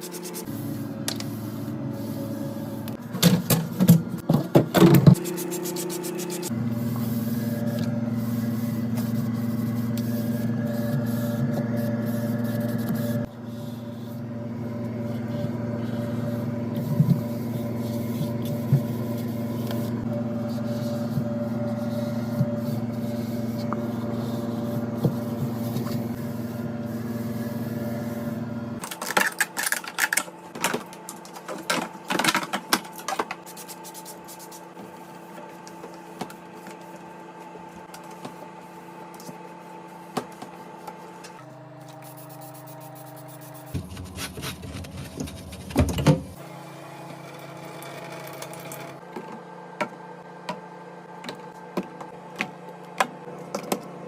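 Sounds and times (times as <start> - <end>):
steady hum: 0.0 - 46.4.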